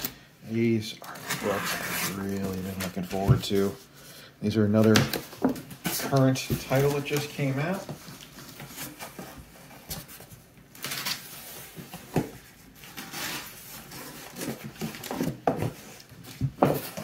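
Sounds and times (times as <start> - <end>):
cardboard packaging rustling: 0.0 - 3.8, 4.8 - 17.0.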